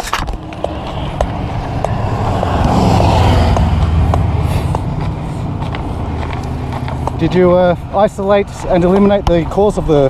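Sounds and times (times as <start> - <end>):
motor vehicle passing by: 0.3 - 10.0.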